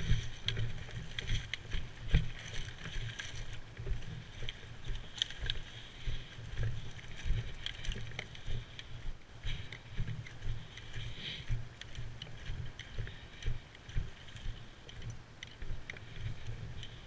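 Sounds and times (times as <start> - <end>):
footsteps on forest ground: 0.0 - 17.0.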